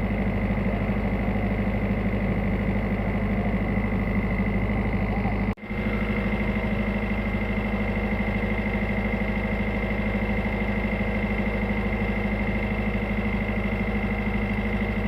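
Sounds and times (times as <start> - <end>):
boat diesel engine throbbing: 0.0 - 15.0.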